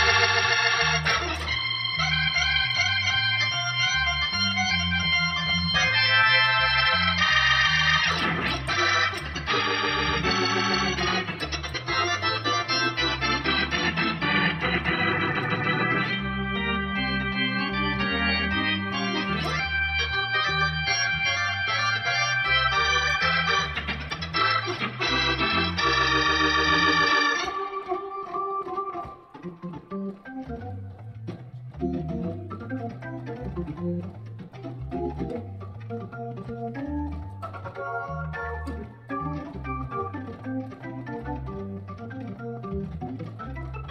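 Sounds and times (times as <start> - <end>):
organ playing chords: 0.0 - 43.9.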